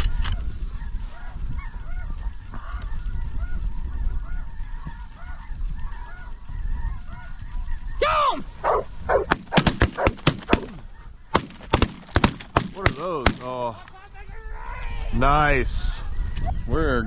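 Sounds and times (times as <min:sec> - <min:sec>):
geese calling: 0:00.0 - 0:17.0.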